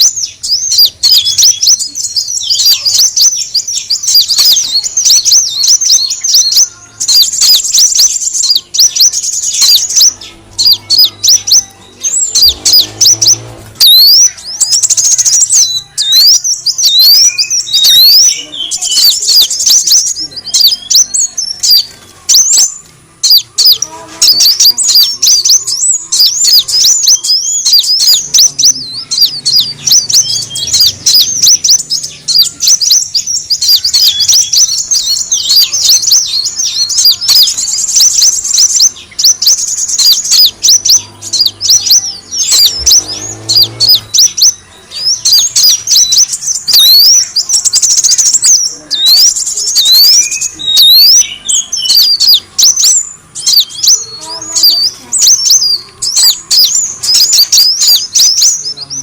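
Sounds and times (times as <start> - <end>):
birds chirping rapidly: 0.0 - 59.0.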